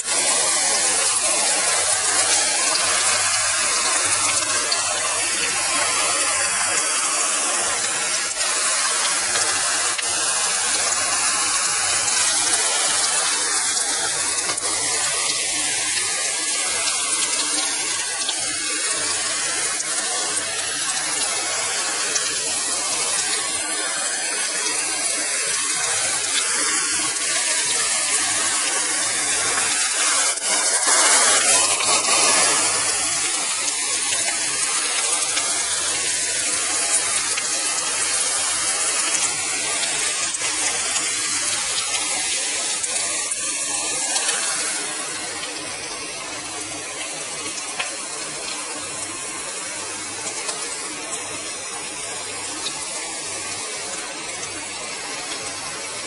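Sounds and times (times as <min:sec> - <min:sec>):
burger patties sizzling on grill: 0:00.0 - 0:56.0.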